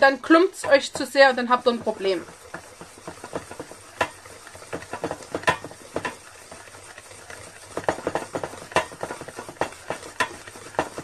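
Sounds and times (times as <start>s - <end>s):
whisk beating in metal bowl: 0.0s - 11.0s.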